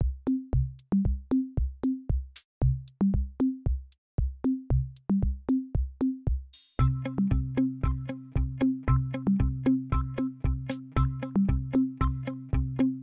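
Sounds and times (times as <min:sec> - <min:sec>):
electronic music with drum beat: 0:00.0 - 0:13.0.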